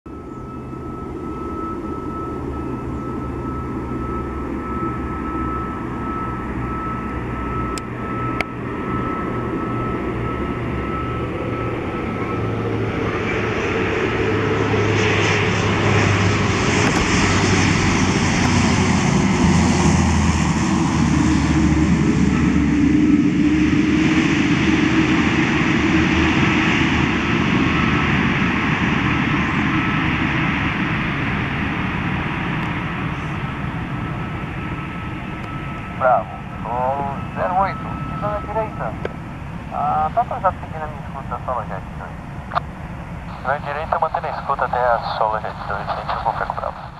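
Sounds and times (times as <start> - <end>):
propeller and turbine hum: 0.1 - 46.9
turboprop engines: 0.1 - 46.9.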